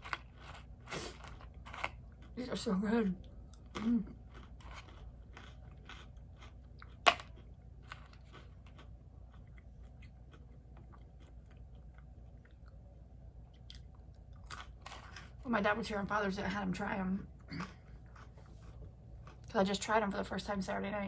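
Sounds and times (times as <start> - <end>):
chewing crunchy pretzels: 0.0 - 12.8, 13.5 - 15.4, 17.4 - 19.6.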